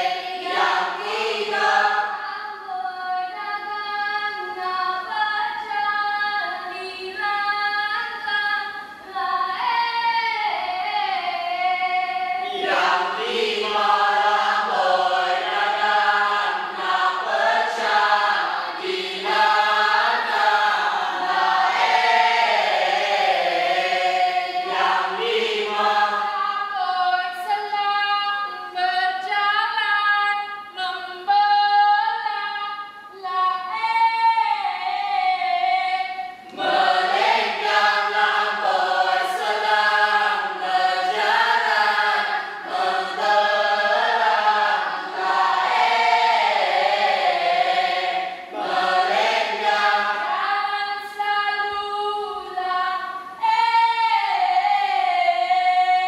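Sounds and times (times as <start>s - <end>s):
group of voices singing: 0.0s - 29.6s, 33.2s - 56.0s.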